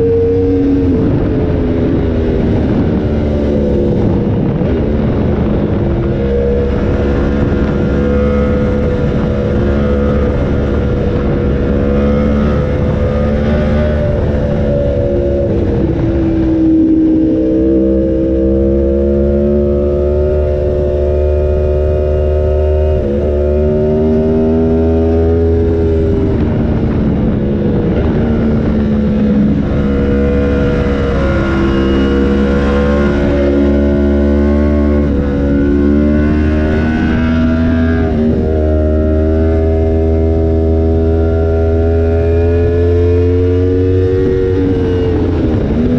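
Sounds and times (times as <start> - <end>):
motorcycle engine at speed: 0.0 - 45.9.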